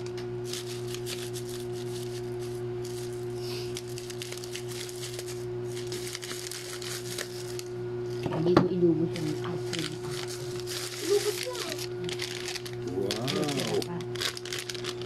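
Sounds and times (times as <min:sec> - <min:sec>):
steady low hum: 0:00.0 - 0:15.0
plastic wrap crinkling: 0:00.4 - 0:08.2, 0:09.1 - 0:15.0.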